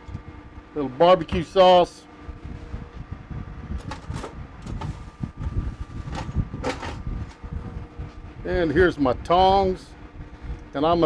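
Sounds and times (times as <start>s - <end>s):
faint steady hum: 0.0s - 11.0s
steady low rumble: 0.0s - 11.0s.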